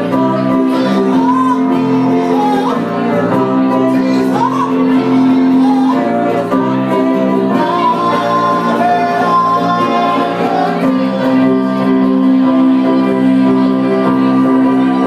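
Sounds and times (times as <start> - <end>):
electric guitar: 0.0 - 15.0
person singing: 0.0 - 15.0.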